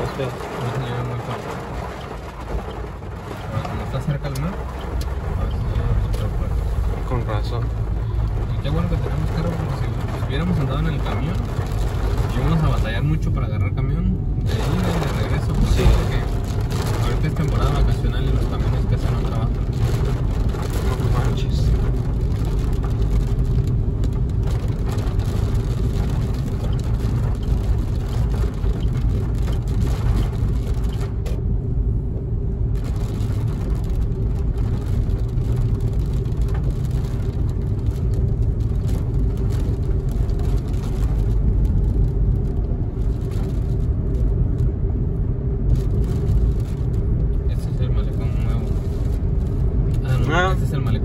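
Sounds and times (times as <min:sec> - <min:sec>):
engine and tyre rumble: 0:00.0 - 0:51.0.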